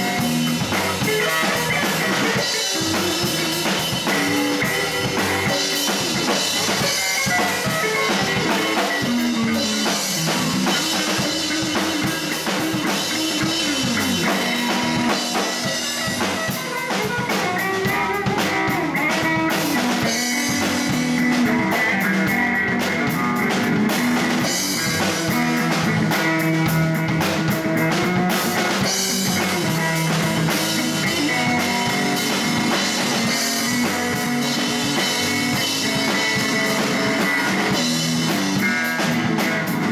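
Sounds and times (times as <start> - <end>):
electric guitar bending notes: 0.0 - 39.9
instrumental blues band: 0.0 - 39.9.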